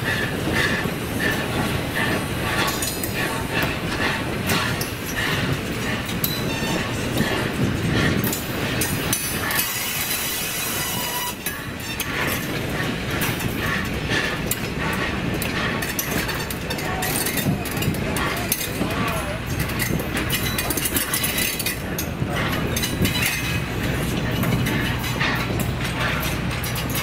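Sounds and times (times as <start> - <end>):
irregular track clicks: 0.0 - 27.0
train wheels on rails: 0.0 - 27.0.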